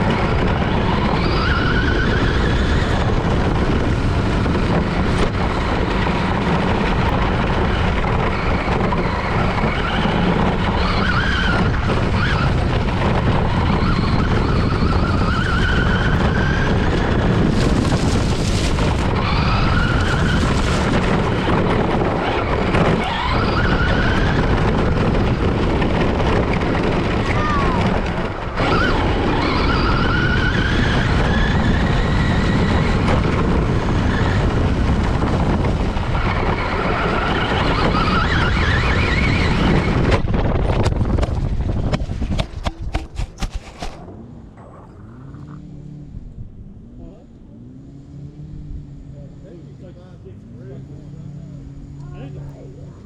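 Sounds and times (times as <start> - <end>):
tyres rumbling on ground: 0.0 - 53.0.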